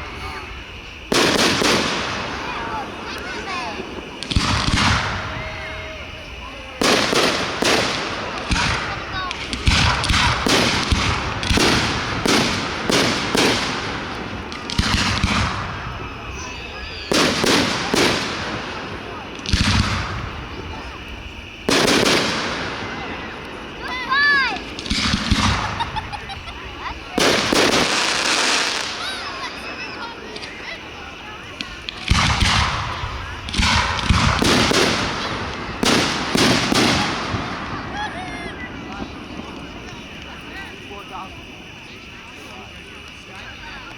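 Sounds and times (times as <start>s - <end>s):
fireworks bursting with crackle: 0.0s - 43.9s.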